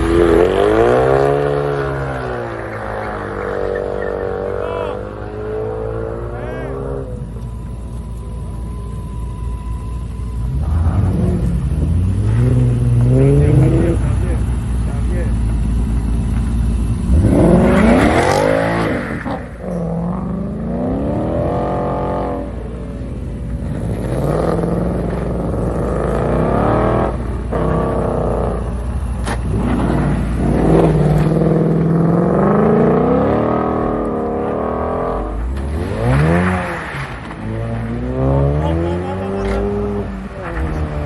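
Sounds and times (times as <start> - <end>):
cars accelerating and revving: 0.0 - 41.0.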